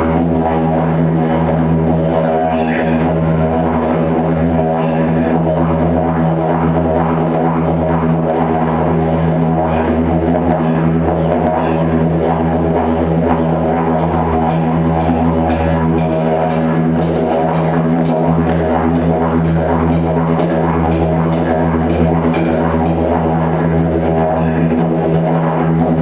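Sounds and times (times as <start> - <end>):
didgeridoo drone: 0.0 - 26.0.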